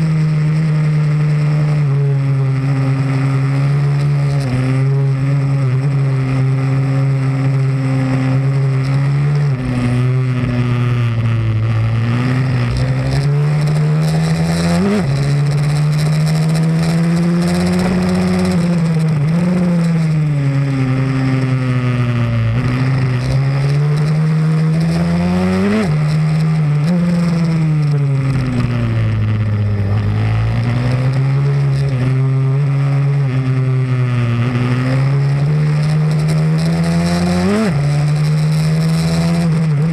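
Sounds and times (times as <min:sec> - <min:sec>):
pit bike engine racing: 0:00.0 - 0:39.9.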